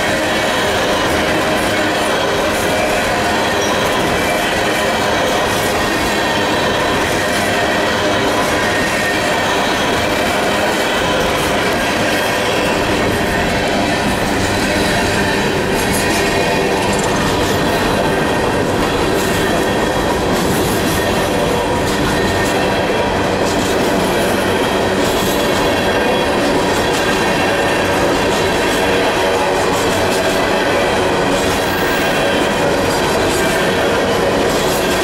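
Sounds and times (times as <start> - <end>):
train wheels rumbling and rattling: 0.0 - 35.0.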